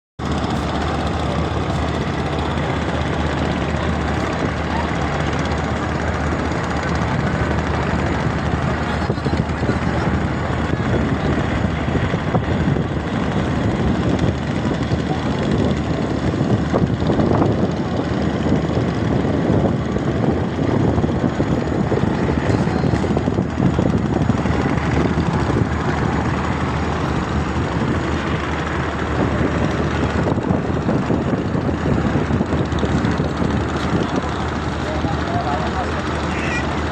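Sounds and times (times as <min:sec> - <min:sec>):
engine low rumble: 0:00.2 - 0:36.9.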